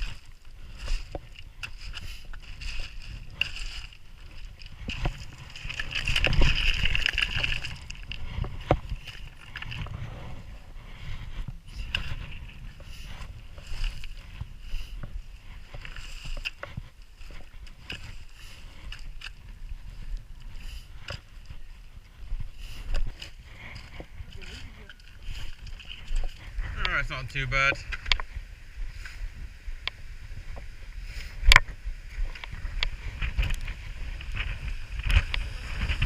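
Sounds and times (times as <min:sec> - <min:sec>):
footsteps crunching on stony path: 0:00.0 - 0:36.0
wind buffeting microphone: 0:00.0 - 0:36.0.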